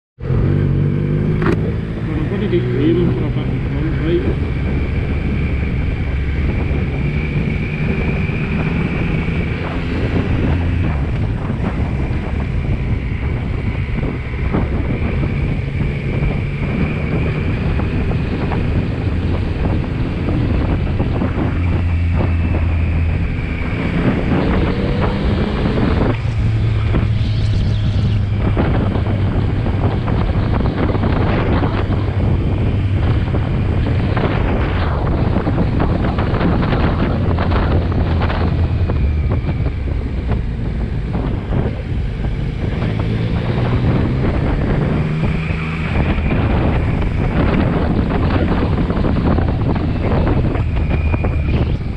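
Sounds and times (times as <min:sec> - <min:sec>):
motorcycle engine accelerating: 0:00.2 - 0:51.9
wind noise on microphone: 0:00.2 - 0:51.9.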